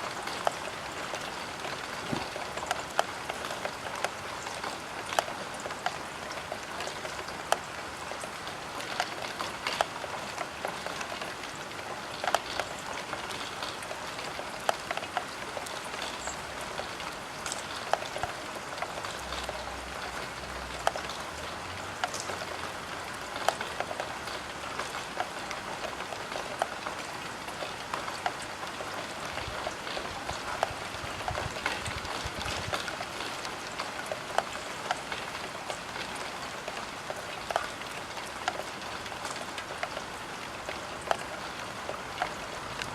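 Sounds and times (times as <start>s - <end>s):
rain pattering on a window: 0.0s - 42.9s
raindrops clicking on glass: 0.2s - 42.9s.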